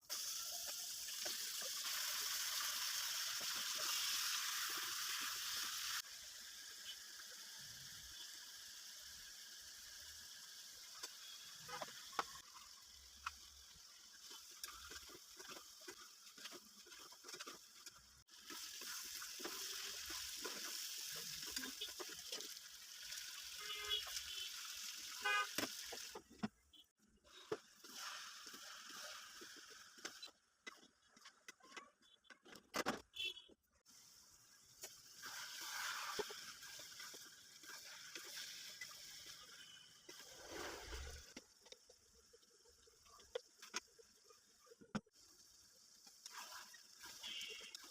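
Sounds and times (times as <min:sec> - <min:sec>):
food sizzling in a pan: 0:00.0 - 0:26.3, 0:27.4 - 0:30.4, 0:33.8 - 0:47.9.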